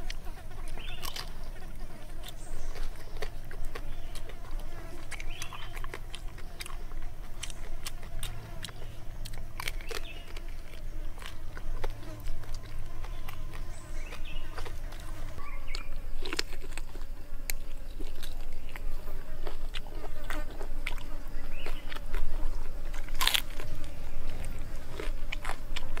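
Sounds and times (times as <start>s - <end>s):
person chewing crunchy meat: 0.0s - 26.0s
wet smacks and crunches: 2.2s - 22.3s, 22.9s - 26.0s.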